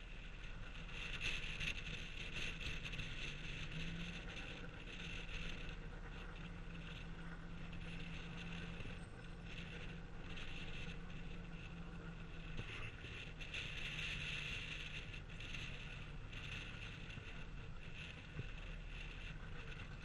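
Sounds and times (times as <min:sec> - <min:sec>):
car engine idling: 0:00.0 - 0:20.0
wind noise on microphone: 0:00.0 - 0:20.0.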